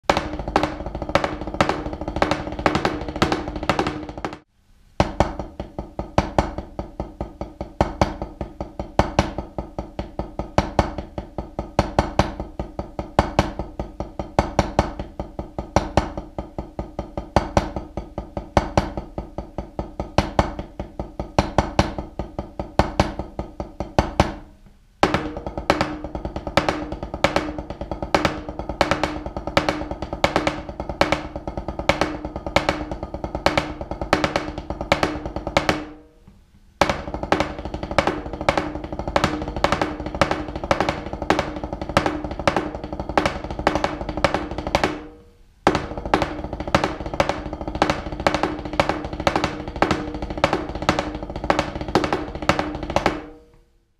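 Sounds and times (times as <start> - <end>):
accented drumstick stroke: 0.0 - 53.6
drumsticks on a practice pad: 0.0 - 53.7.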